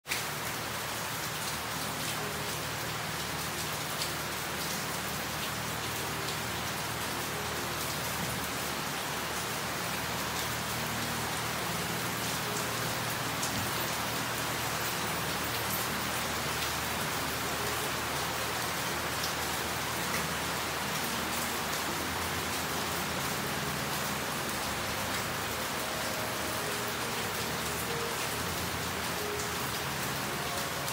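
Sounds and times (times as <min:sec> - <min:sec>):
steady rain hissing: 0:00.0 - 0:30.9.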